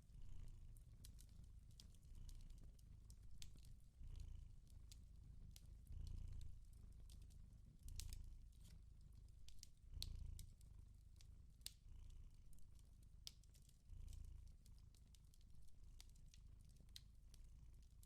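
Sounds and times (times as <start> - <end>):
cat purring: 0.0 - 18.0
wood fire crackling: 0.6 - 11.8, 12.4 - 18.0.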